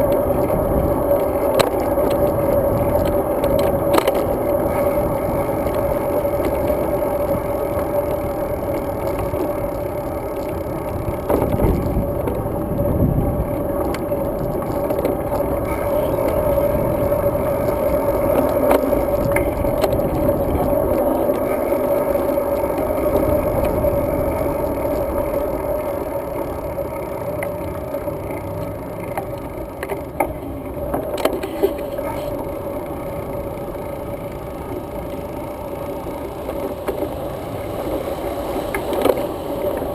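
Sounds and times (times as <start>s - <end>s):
sharp clicks and rattles: 0.0s - 37.2s
constant hum: 0.0s - 39.9s
road rumble: 0.0s - 39.9s
wind: 0.0s - 39.9s.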